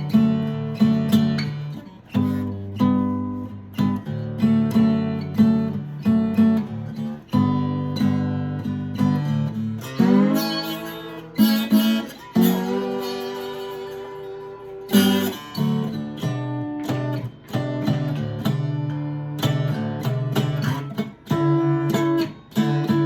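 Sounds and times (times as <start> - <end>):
slide acoustic guitar: 0.0 - 23.0.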